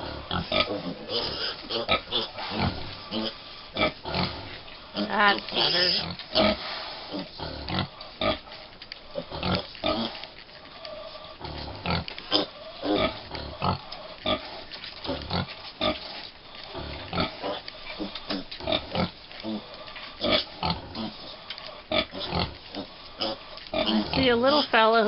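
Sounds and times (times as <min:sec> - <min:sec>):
pigs grunting: 0:00.0 - 0:25.0.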